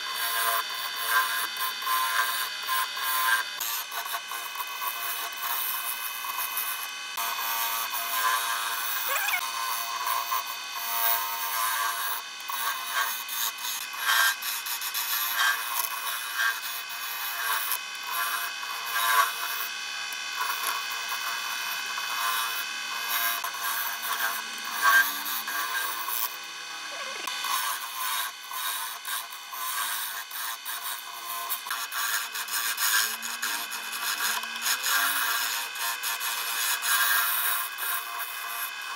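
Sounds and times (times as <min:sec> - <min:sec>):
chisel scraping spinning wood: 0:00.0 - 0:38.9
wood lathe motor whine: 0:00.0 - 0:38.9.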